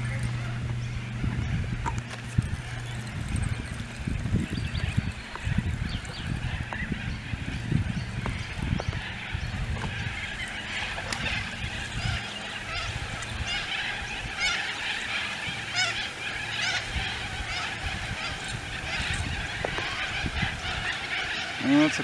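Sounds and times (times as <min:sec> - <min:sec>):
birds calling in high notes: 0:00.0 - 0:22.0
wind buffeting microphone: 0:00.0 - 0:22.0.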